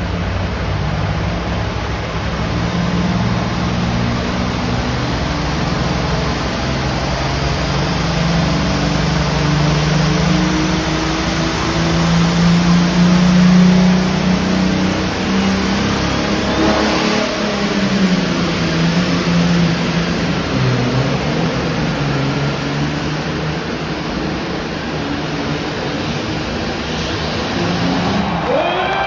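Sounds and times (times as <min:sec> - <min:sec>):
tractor engine under heavy load: 0:00.0 - 0:28.1.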